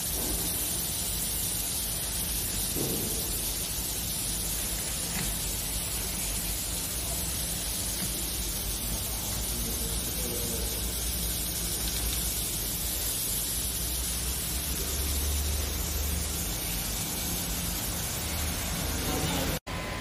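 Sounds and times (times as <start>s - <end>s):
labeling machine running: 0.0s - 19.6s.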